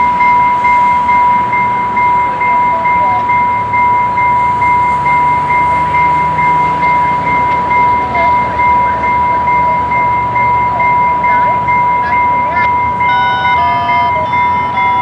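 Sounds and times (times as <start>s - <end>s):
railway warning bell ringing: 0.0s - 15.0s.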